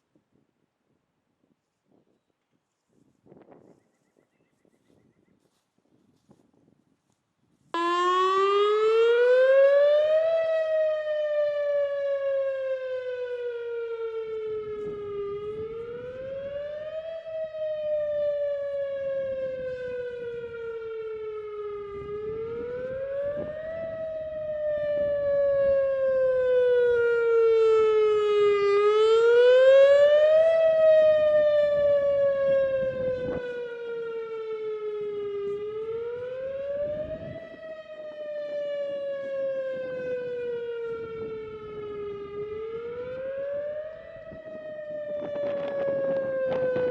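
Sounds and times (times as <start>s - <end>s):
warning siren wailing: 7.7s - 46.9s.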